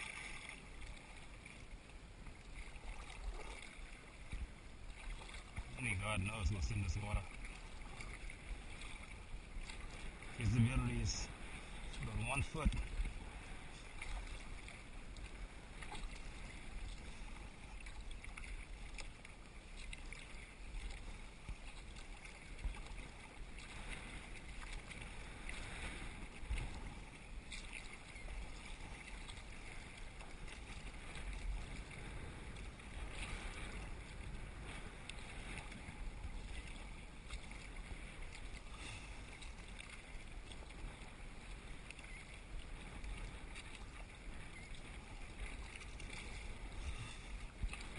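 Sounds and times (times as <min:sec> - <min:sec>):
paddle strokes splashing: 0:00.0 - 0:47.9
water lapping against hull: 0:00.0 - 0:47.9
wind on microphone: 0:05.2 - 0:17.5, 0:20.8 - 0:47.9.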